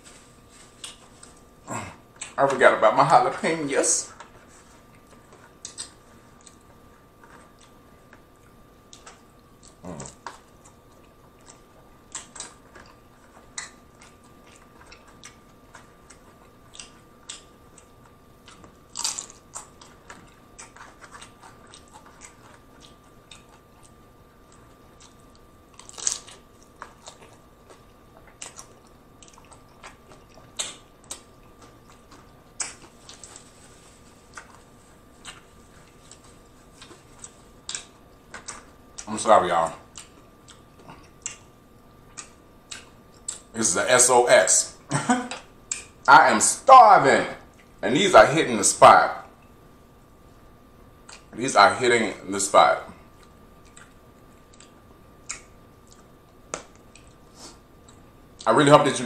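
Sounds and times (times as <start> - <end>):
chewing crunchy tacos: 0.0 - 2.4, 3.9 - 43.6, 44.7 - 46.1, 49.2 - 51.4, 52.9 - 58.5.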